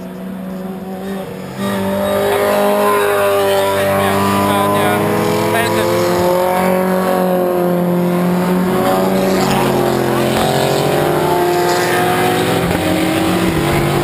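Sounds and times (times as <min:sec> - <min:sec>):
sports car engines at high revs: 0:00.0 - 0:14.0.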